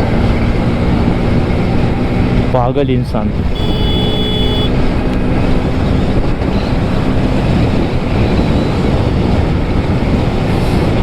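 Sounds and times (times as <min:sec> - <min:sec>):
motorcycle engine and road noise: 0:00.0 - 0:11.0
wind rushing over microphone: 0:00.0 - 0:11.0.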